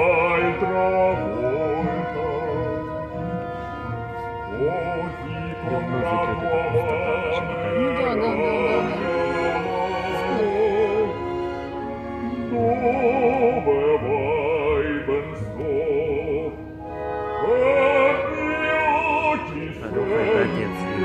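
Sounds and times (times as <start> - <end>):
operatic singing with vibrato: 0.0 - 21.0
sustained accompaniment: 0.0 - 21.0.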